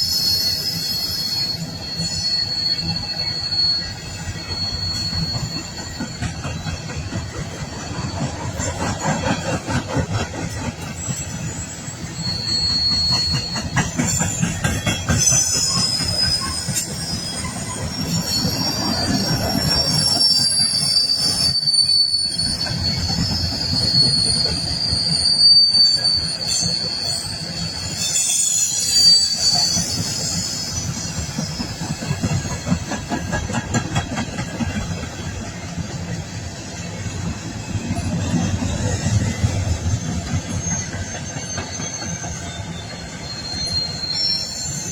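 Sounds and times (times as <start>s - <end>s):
train cars rumbling and clattering: 0.0s - 44.9s
train wheels squealing: 0.0s - 44.9s.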